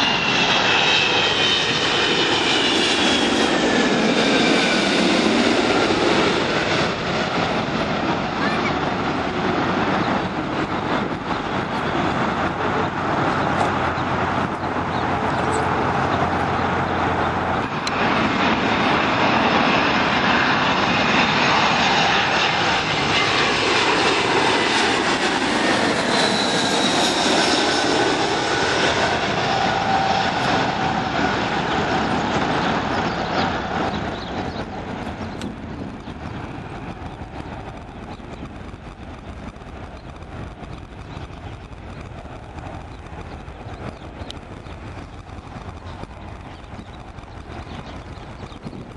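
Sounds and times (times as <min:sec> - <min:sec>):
jet airliner passing overhead: 0:00.0 - 0:48.9.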